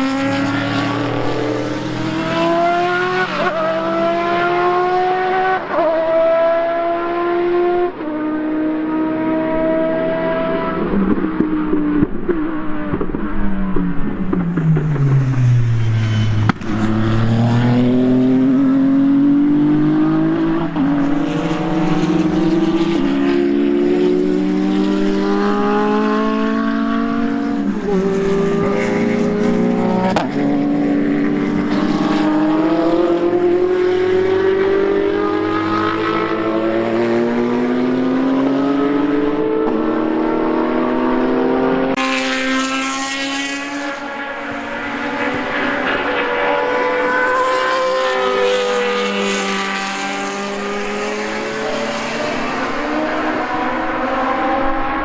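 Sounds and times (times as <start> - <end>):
racing car engines at full throttle: 0.0 - 55.0.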